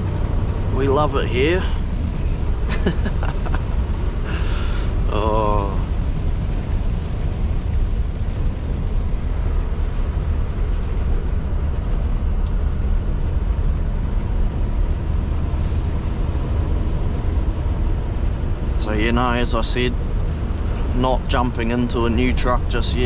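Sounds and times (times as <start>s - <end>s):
road noise: 0.0s - 23.0s
truck engine droning: 0.0s - 23.0s.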